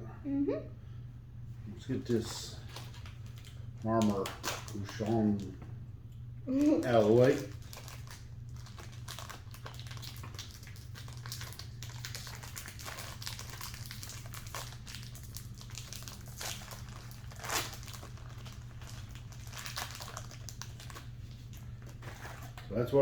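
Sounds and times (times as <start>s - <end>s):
plastic wrapper crinkling: 2.0s - 5.6s, 6.5s - 22.9s.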